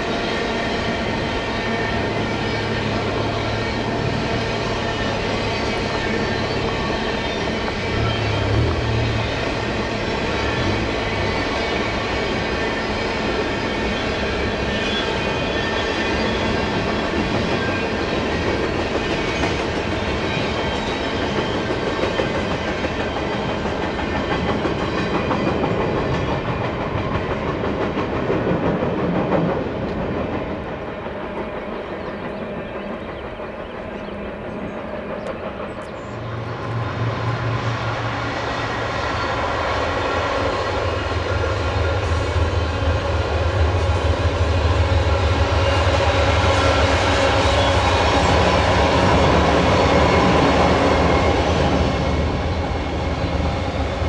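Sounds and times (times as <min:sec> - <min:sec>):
train rolling on tracks: 0:00.0 - 0:54.0.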